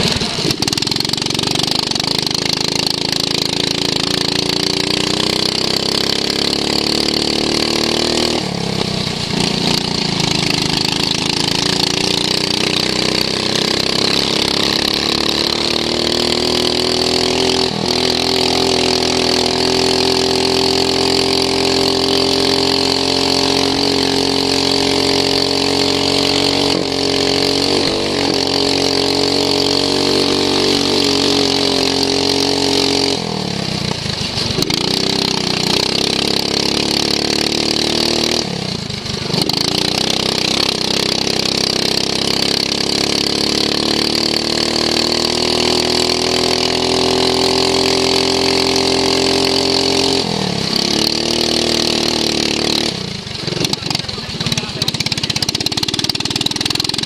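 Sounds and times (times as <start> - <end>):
lawn mower engine revving: 0.0 - 57.0.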